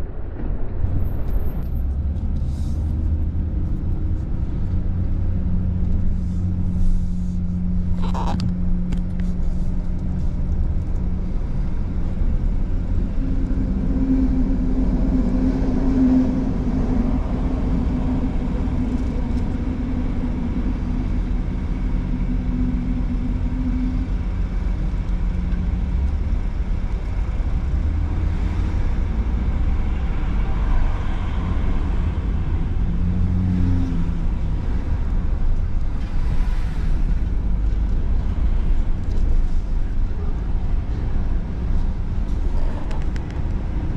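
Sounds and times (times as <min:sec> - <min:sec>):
low rumble of vehicle engines: 0:00.0 - 0:43.9
steady engine hum: 0:00.0 - 0:43.9.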